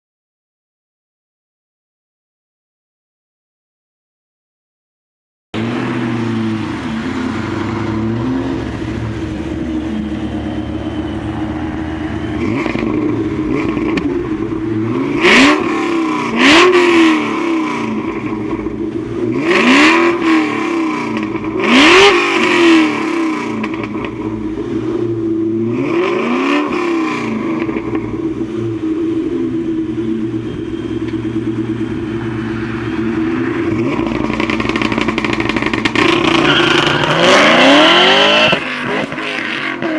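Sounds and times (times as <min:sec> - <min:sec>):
car engine idling and revving: 0:05.6 - 0:39.9.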